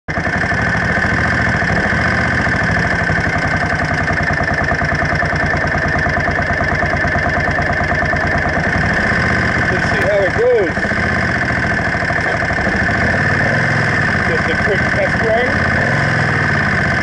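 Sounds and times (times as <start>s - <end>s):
motorcycle engine idling: 0.1s - 17.0s.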